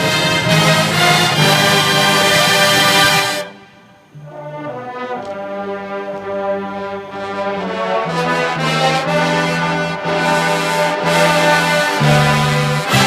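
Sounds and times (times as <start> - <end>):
brass band playing a fanfare: 0.0 - 3.7, 4.3 - 13.0.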